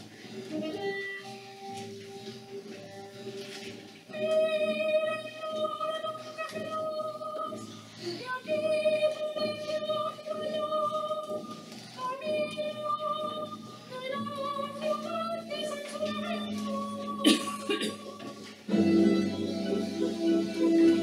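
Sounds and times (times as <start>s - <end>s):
lower accompaniment: 0.0s - 21.0s.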